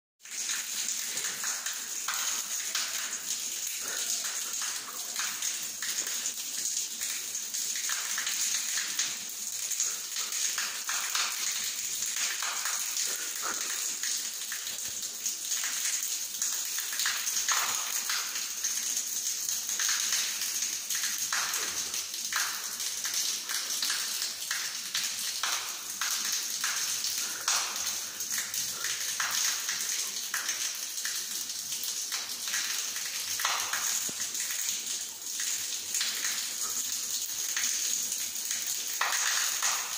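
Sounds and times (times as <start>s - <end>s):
shower water splashing on tiles: 0.2s - 39.9s.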